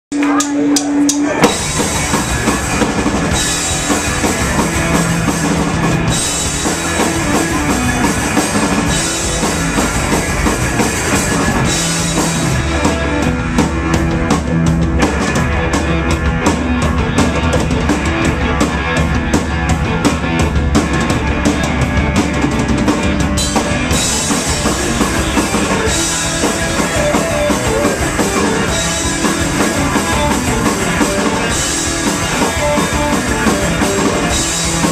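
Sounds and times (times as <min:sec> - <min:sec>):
psychedelic rock band playing: 0:00.1 - 0:34.9.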